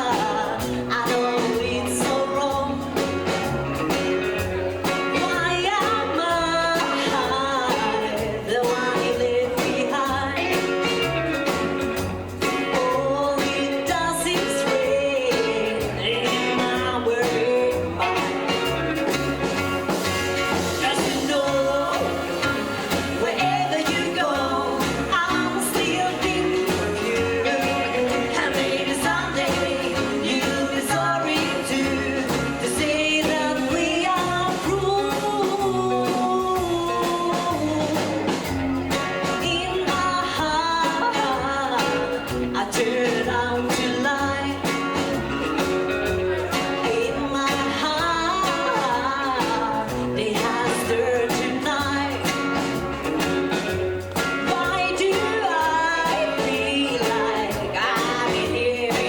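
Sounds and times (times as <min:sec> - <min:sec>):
person singing: 0:00.0 - 0:11.7, 0:12.4 - 0:59.0
bass line: 0:00.0 - 0:59.0
drums: 0:00.0 - 0:59.0
guitar: 0:00.0 - 0:59.0.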